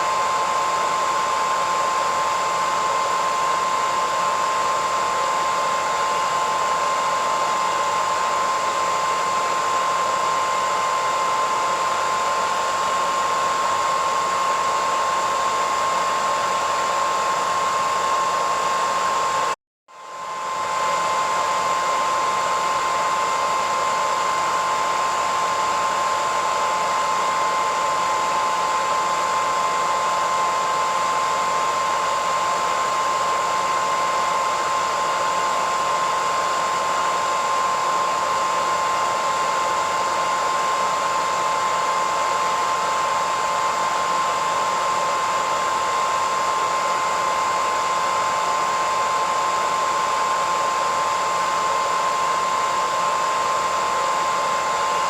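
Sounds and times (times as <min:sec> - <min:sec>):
hairdryer running: 0:00.0 - 0:55.0.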